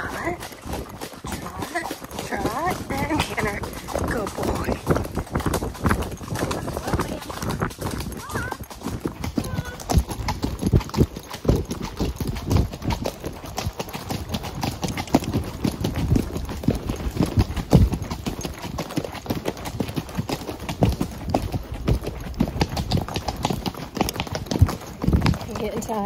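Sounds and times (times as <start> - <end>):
horse hoofbeats clip-clop: 0.0 - 26.0.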